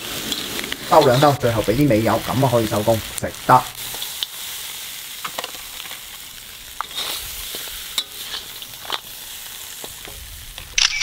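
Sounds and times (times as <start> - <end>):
crab sizzling in a wok: 0.0 - 10.8.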